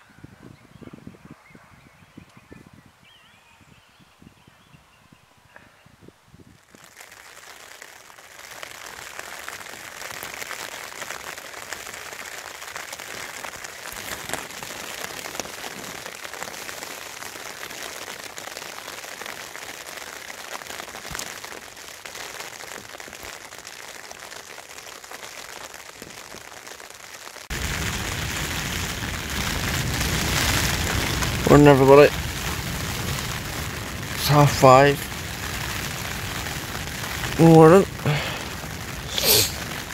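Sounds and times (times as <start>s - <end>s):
rain on tent flysheet: 6.3s - 39.9s.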